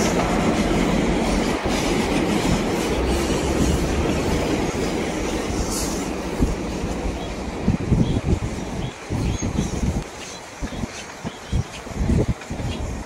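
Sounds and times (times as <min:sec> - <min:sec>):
train rolling on tracks: 0:00.0 - 0:13.0.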